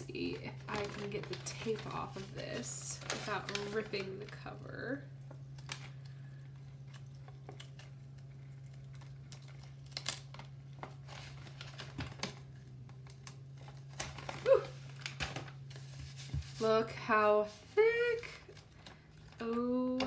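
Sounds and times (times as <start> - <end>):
paper wrapping rustling: 0.0 - 20.0.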